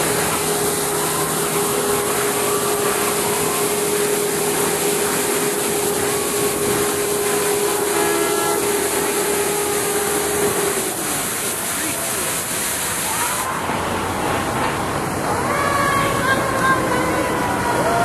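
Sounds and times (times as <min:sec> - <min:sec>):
constant drone: 0:00.0 - 0:18.0
fire truck engine hum: 0:00.0 - 0:18.0
street noise: 0:00.0 - 0:18.0.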